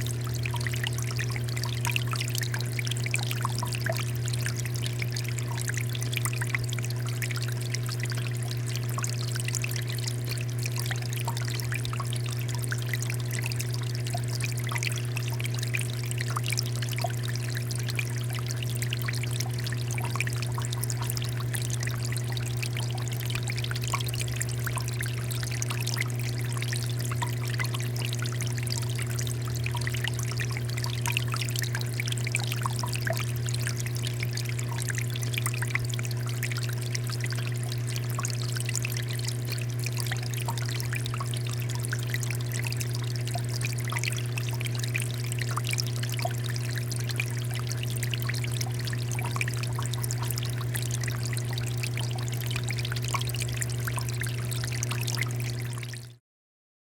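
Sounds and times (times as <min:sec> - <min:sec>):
water fountain flowing: 0:00.0 - 0:55.9.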